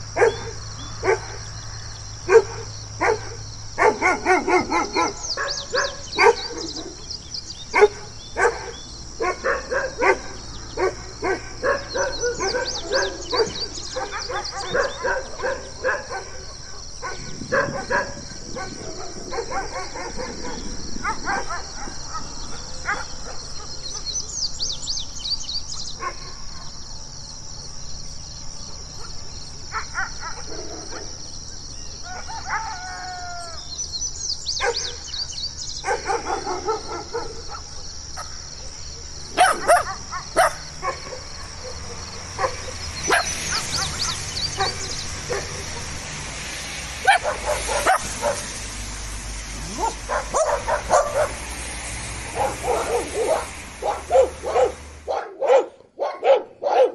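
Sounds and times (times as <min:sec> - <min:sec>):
dogs barking: 0:00.0 - 0:01.6, 0:02.2 - 0:24.2, 0:25.9 - 0:26.7, 0:28.9 - 0:31.2, 0:34.6 - 0:56.9.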